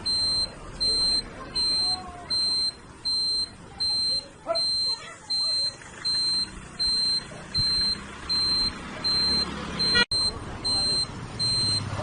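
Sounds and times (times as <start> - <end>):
high-pitched electronic beep: 0.0 - 11.9.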